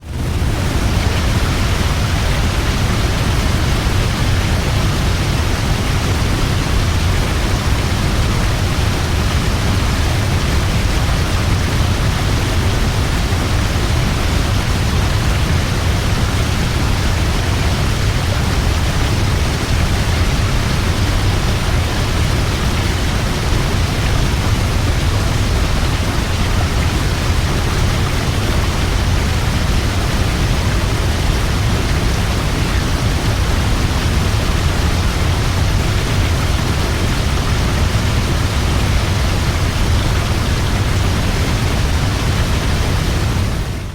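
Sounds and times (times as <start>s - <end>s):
waterfall rushing: 0.1s - 43.9s.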